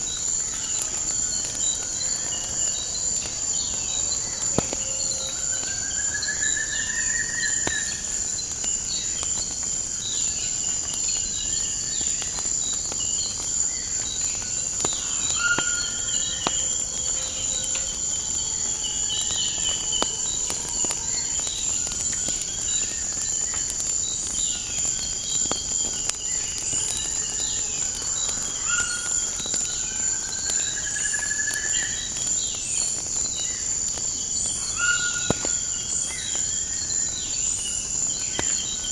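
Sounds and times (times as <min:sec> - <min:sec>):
high-pitched insect chorus: 0:00.0 - 0:38.9
wood fire crackling: 0:00.0 - 0:38.9.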